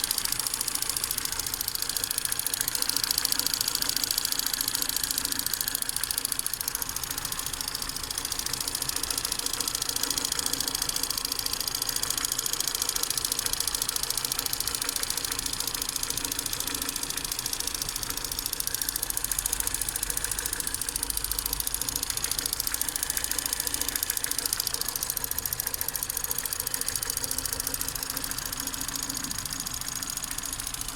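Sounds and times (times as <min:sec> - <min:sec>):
car engine running: 0:00.0 - 0:30.9
fast even engine ticking: 0:00.0 - 0:30.9.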